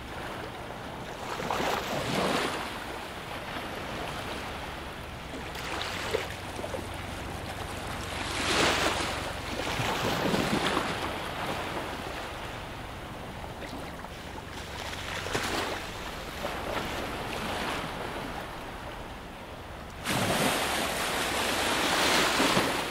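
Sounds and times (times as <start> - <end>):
small waves washing in shallow water: 0.0 - 22.9.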